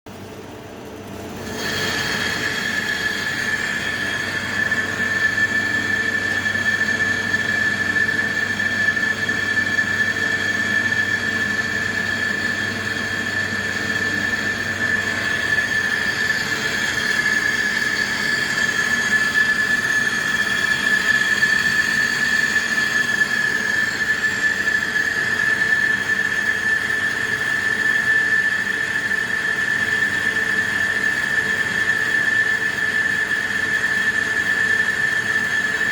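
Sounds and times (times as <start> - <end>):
lathe cutting tool squealing: 1.4 - 35.9.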